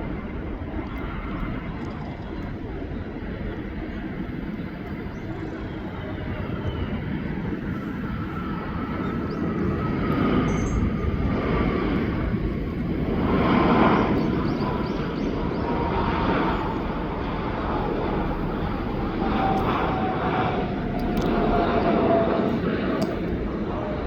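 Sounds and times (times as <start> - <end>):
jet engine rumble and whine: 0.0 - 24.0.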